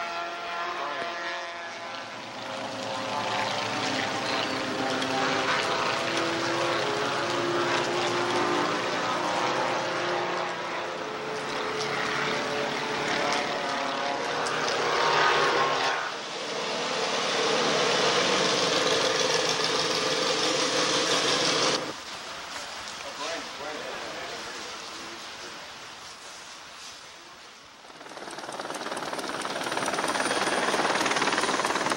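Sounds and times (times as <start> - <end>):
propeller airplane engine running: 0.0 - 22.0, 27.8 - 31.9.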